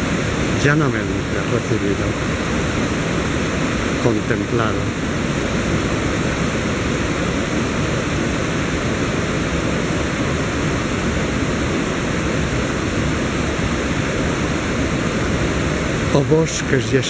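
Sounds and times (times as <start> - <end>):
river rushing through rapids: 0.0 - 17.0.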